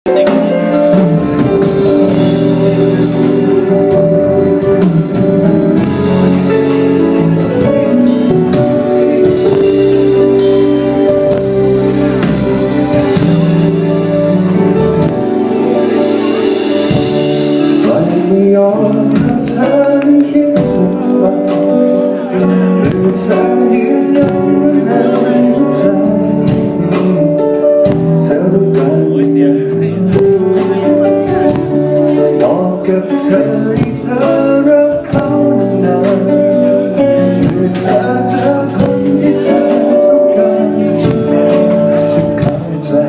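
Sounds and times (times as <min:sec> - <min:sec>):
band playing held chords: 0:00.0 - 0:43.0.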